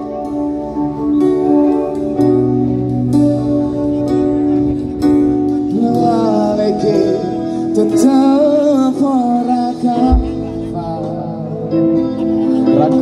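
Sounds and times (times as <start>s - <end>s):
live band playing: 0.0s - 13.0s
person singing melody: 0.0s - 13.0s
plucked guitar: 0.0s - 13.0s.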